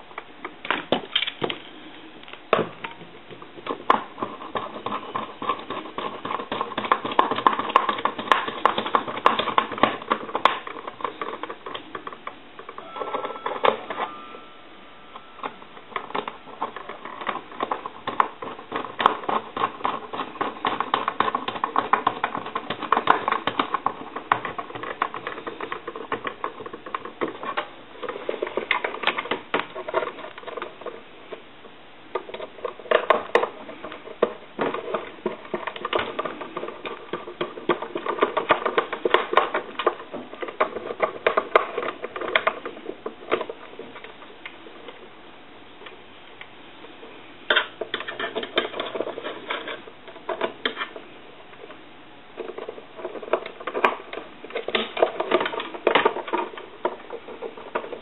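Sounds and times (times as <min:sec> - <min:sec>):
small clicks taps and scrapes: 0:00.1 - 0:14.1, 0:15.4 - 0:31.5, 0:32.1 - 0:45.0, 0:47.5 - 0:51.8, 0:52.4 - 0:58.0.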